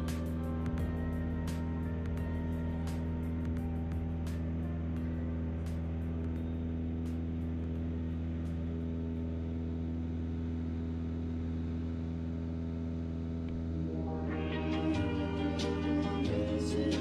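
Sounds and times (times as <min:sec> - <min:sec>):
music: 0:00.0 - 0:10.2, 0:13.5 - 0:17.0
airplane engine and propeller droning: 0:00.0 - 0:17.0.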